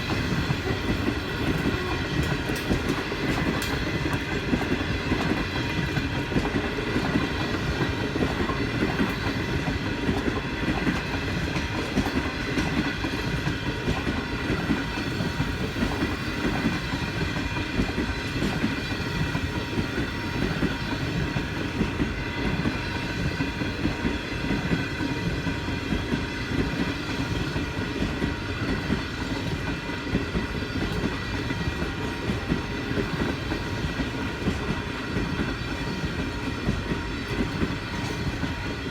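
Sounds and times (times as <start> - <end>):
train wheels clattering on track: 0.0 - 38.9.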